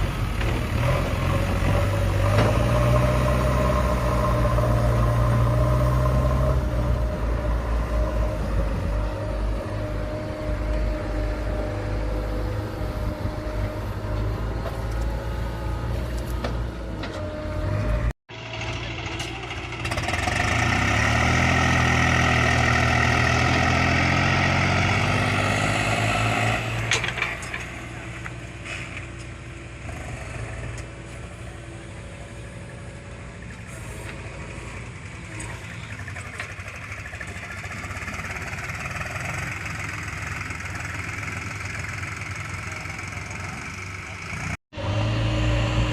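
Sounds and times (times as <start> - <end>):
heavy diesel machinery engine: 0.0 - 45.9.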